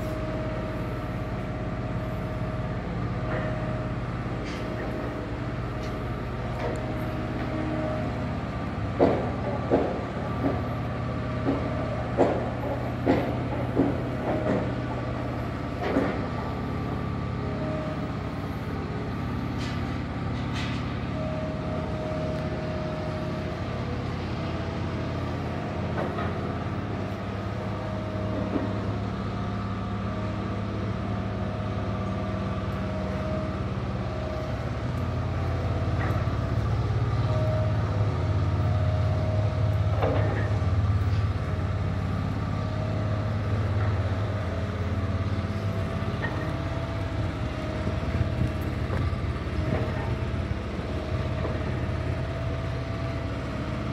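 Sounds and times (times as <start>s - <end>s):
heavy machine engine running: 0.0s - 53.9s.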